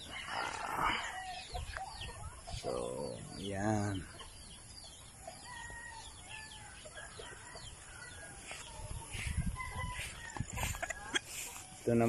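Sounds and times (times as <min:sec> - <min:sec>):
distant roosters crowing: 0:00.0 - 0:12.0
small birds chirping: 0:00.0 - 0:12.0.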